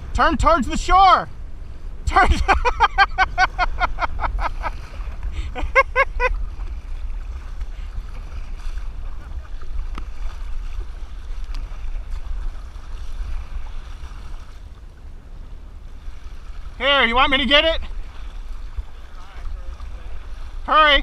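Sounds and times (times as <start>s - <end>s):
water splashing against kayak: 0.0s - 21.0s
wind buffeting microphone: 0.0s - 21.0s.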